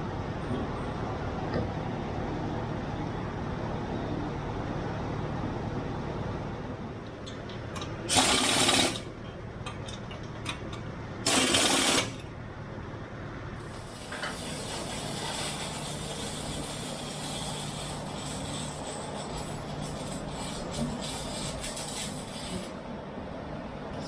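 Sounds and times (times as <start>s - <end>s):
low shop hum: 0.0s - 24.0s.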